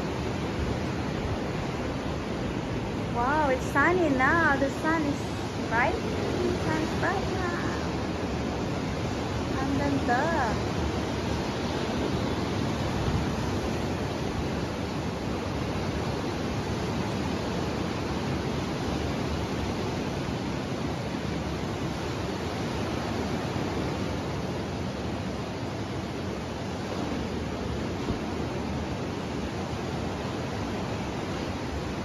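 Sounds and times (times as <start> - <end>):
sea breeze rushing: 0.0 - 32.0
surf breaking on beach: 0.0 - 32.0.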